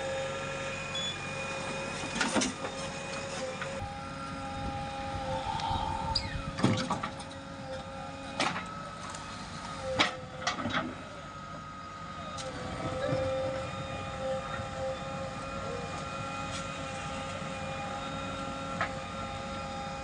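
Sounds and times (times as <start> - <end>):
diesel engine whine: 0.0 - 20.0.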